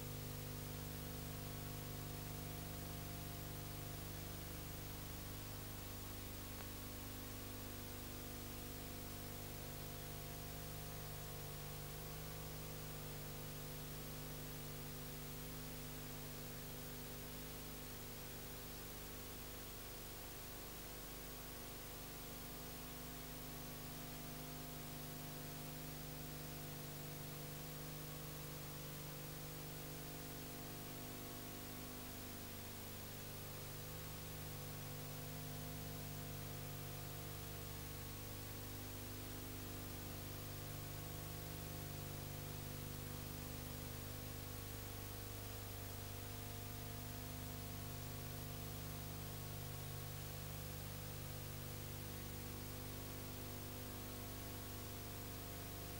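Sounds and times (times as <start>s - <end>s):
electrical mains hum with hiss: 0.0s - 55.9s.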